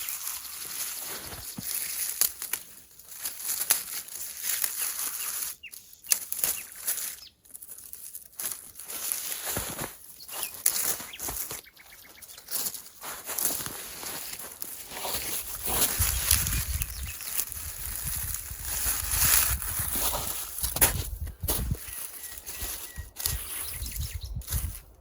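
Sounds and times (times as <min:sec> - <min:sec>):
rustling and crinkling handling: 0:00.0 - 0:25.0.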